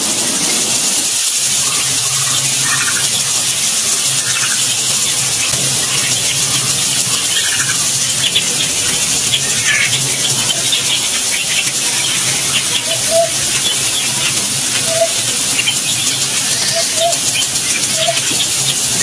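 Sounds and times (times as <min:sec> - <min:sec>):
small birds chirping: 0:00.0 - 0:19.0
steady rushing hiss: 0:00.0 - 0:19.0.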